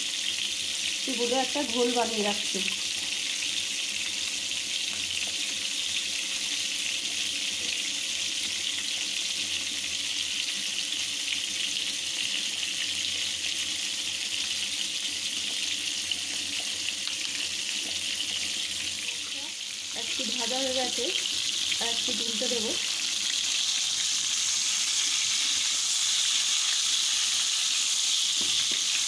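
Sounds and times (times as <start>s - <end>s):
fish frying in hot oil: 0.0s - 29.0s.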